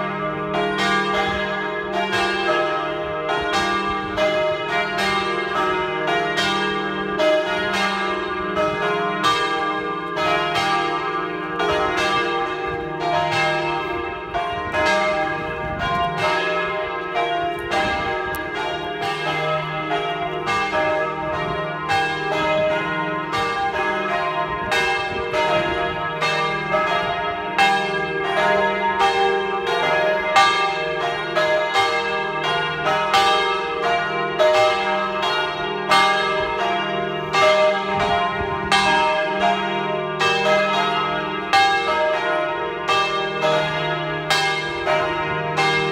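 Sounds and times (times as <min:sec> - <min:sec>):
church bells pealing: 0:00.0 - 0:45.9
low hum from bells: 0:00.0 - 0:45.9.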